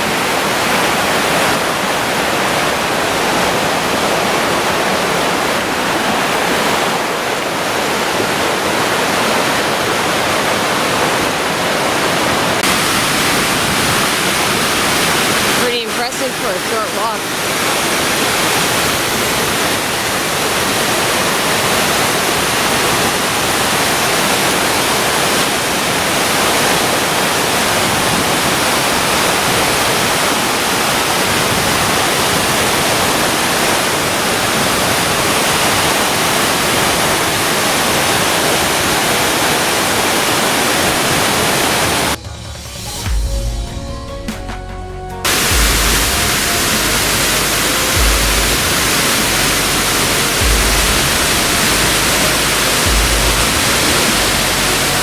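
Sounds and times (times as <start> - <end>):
waterfall roaring: 0.0 - 42.2, 45.3 - 55.0.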